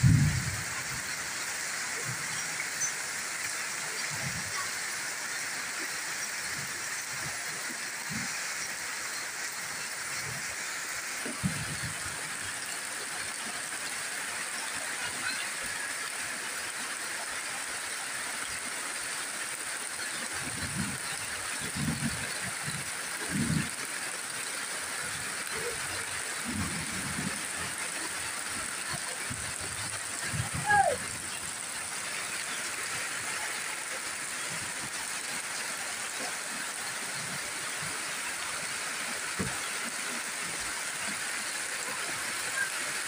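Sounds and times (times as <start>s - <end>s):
rain on leaves and roof: 0.0s - 43.0s.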